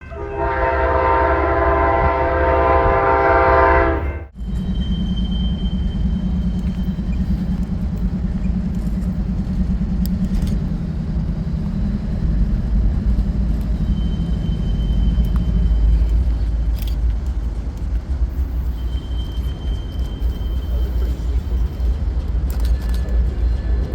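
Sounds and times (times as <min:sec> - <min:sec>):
passing train rumble: 0:00.0 - 0:23.9.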